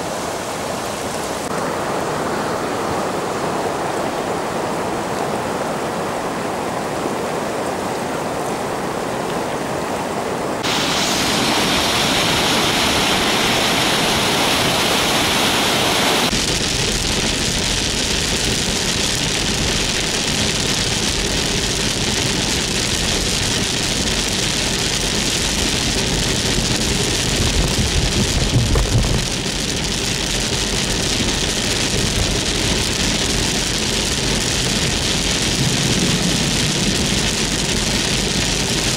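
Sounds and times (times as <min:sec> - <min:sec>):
rain and running water: 0:00.0 - 0:38.9.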